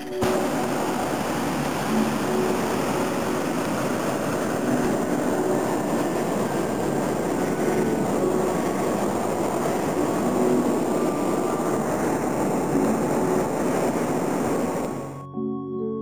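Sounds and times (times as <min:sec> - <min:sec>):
propane burner firing: 0:00.0 - 0:15.3.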